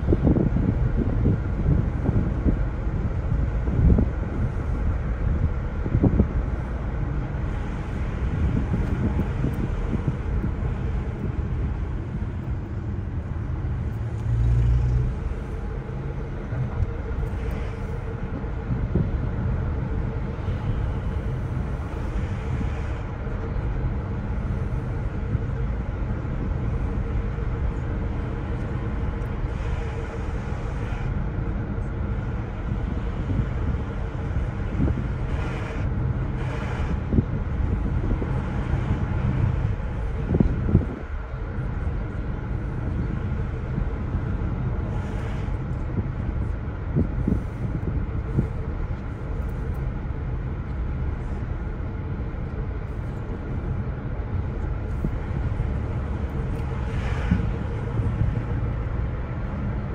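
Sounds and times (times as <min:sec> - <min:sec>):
car engine and tyres rumbling: 0:00.0 - 0:59.9.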